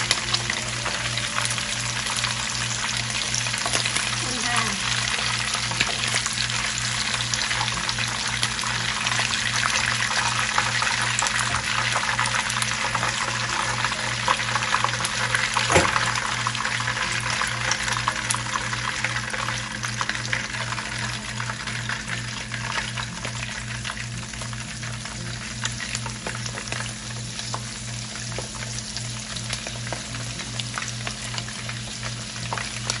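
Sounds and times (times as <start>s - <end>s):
oil sizzling in a frying pan: 0.0s - 33.0s.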